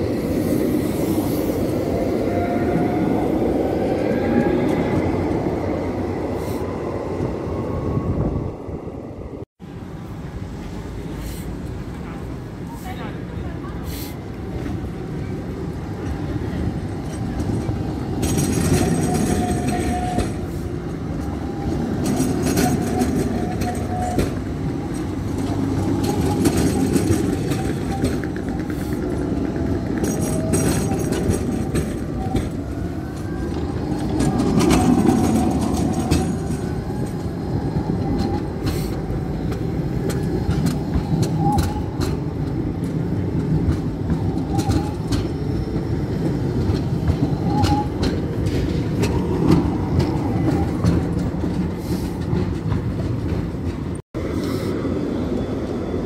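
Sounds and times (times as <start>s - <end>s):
tram rumbling on rails: 0.0s - 56.0s.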